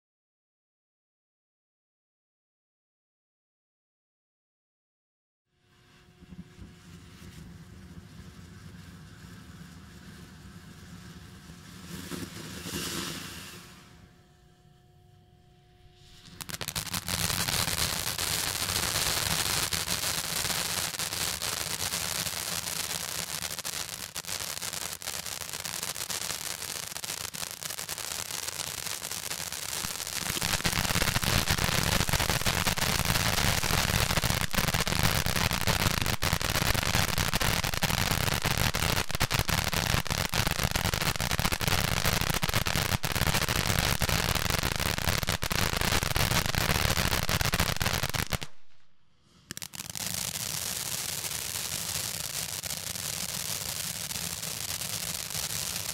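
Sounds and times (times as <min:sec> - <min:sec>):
fountain firework hissing and crackling: 0:06.2 - 0:14.1, 0:15.8 - 0:48.7, 0:49.3 - 0:55.9.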